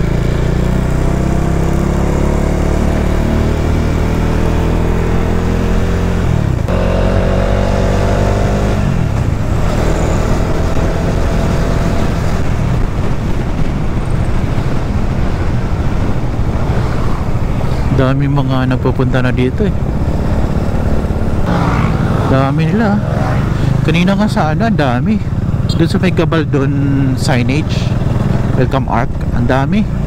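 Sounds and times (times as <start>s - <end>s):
wind noise: 0.0s - 25.6s
motorcycle engine accelerating: 0.0s - 30.0s.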